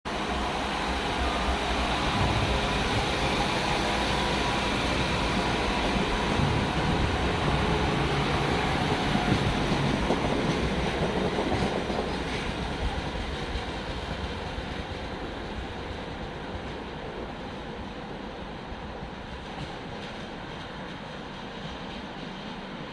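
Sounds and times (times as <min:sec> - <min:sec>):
train rumbling on rails: 0:00.1 - 0:22.9.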